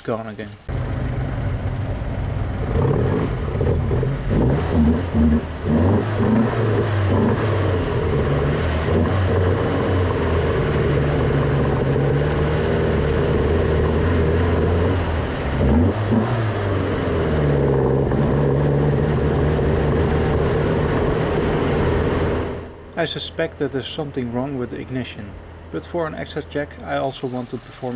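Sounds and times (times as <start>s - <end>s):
car engine running while driving: 0.7s - 27.9s.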